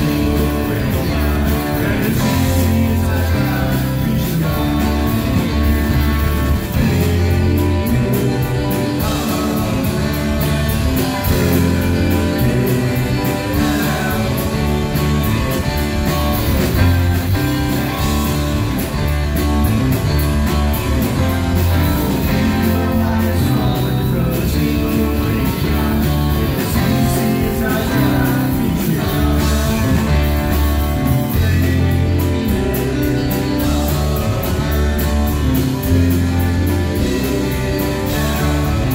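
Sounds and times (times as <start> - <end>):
drum kit: 0.0 - 38.9
electric guitars: 0.0 - 38.9
low bass line: 0.0 - 38.9
rock band playing live: 0.0 - 38.9.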